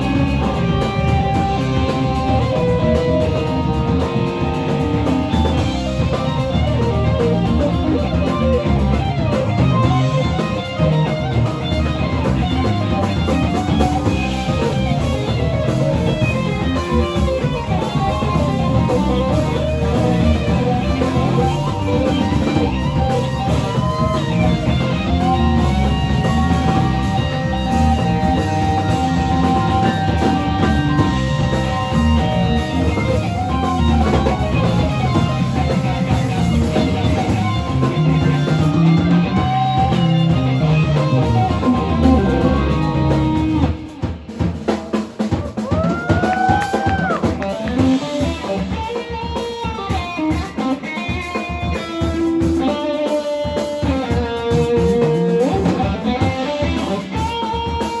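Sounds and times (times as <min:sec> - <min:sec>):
drums: 0:00.0 - 0:58.0
electric guitar lead line: 0:00.0 - 0:58.0.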